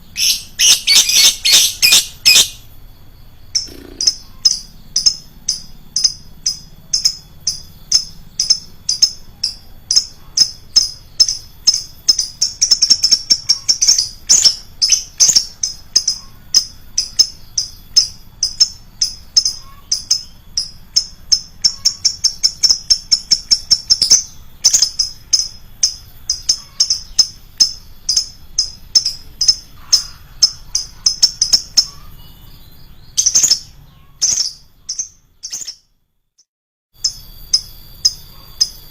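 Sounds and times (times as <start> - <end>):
lovebird chirping: 0.0 - 36.1, 37.0 - 38.9.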